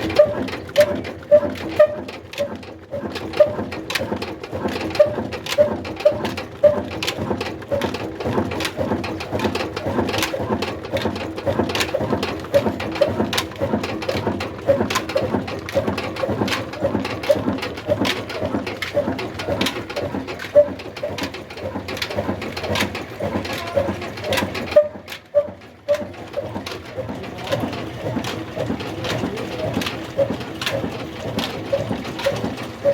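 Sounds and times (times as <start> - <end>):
diesel engine chugging: 0.0 - 32.9.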